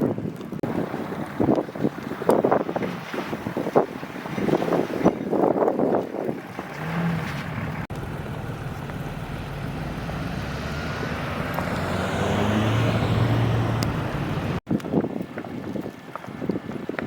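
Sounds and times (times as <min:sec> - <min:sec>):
vehicle engine and tyres on road: 0:00.0 - 0:17.0.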